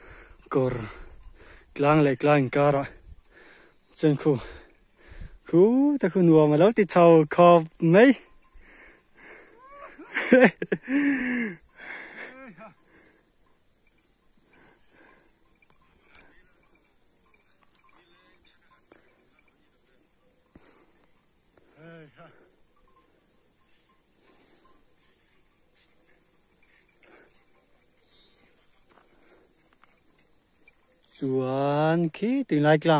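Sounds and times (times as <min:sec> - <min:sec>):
insects chirring: 0:00.0 - 0:32.9.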